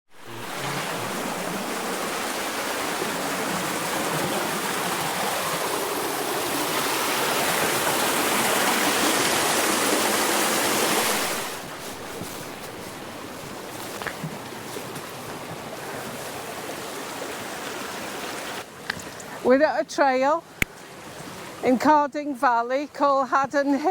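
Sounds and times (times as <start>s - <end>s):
stream rushing over rocks: 0.2s - 22.0s.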